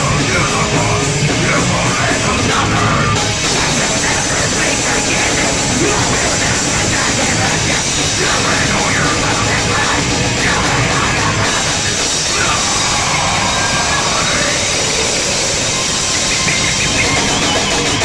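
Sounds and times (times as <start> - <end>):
heavy metal band playing: 0.0 - 18.0
vocalist screaming: 1.5 - 17.6.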